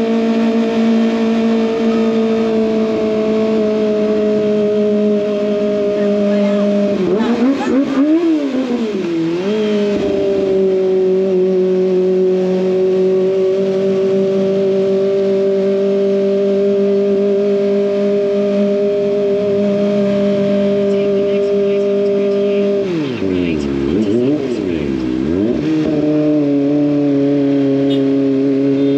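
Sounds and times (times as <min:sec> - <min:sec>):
motorcycle engine droning: 0:00.0 - 0:28.9.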